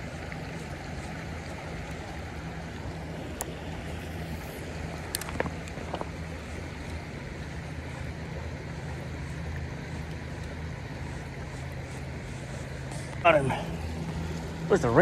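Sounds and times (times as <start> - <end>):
creek water over rocks: 0.0 - 15.0.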